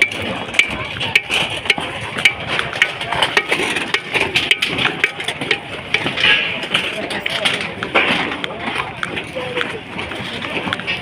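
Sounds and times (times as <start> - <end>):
clatter of sharp knocks: 0.0 - 11.0.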